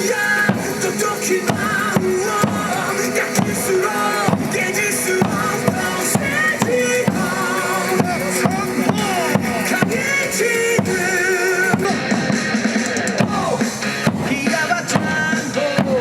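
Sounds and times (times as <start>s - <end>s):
person singing: 0.0s - 16.0s
upbeat song over loudspeakers: 0.0s - 16.0s.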